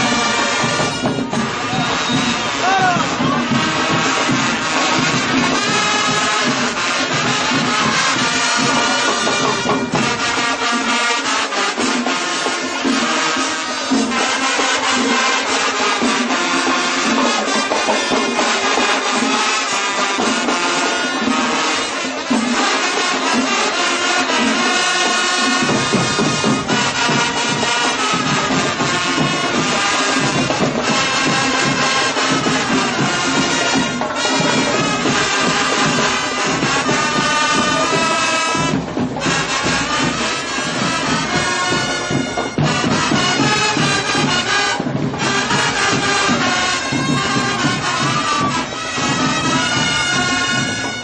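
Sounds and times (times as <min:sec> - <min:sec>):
drums: 0:00.0 - 0:51.0
marching band brass: 0:00.0 - 0:51.0.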